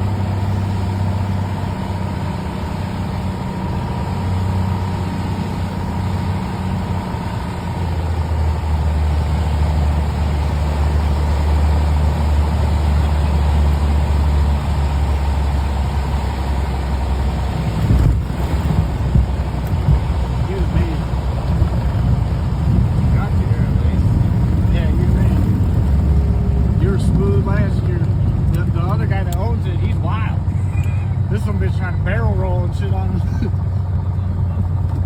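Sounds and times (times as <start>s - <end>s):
airplane engine and propeller droning: 0.0s - 35.0s.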